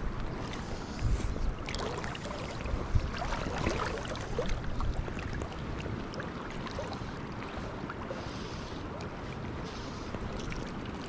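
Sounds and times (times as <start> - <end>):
river water lapping and splashing: 0.0 - 11.0
wind on microphone: 0.0 - 11.0.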